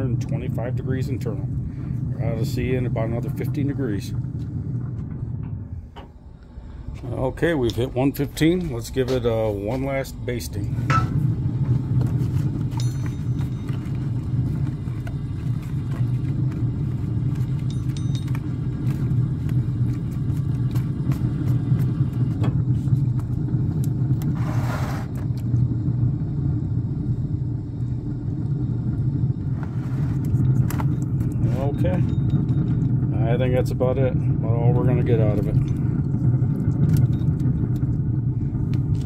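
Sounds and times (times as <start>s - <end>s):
smoker low rumbling drone: 0.0s - 39.0s.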